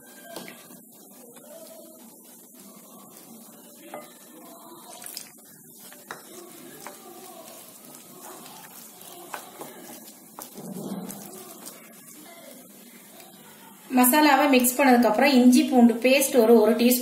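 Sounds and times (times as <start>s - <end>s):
wet paste mixing: 0.1s - 13.9s.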